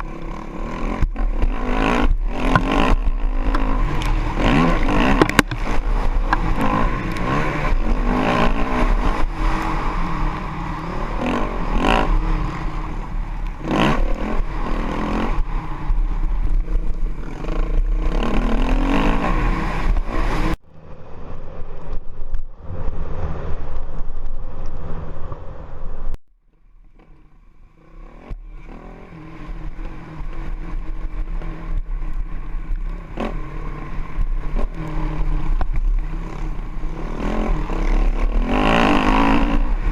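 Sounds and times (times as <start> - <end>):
dirt bike engine revving: 0.0 - 21.0, 27.0 - 39.9.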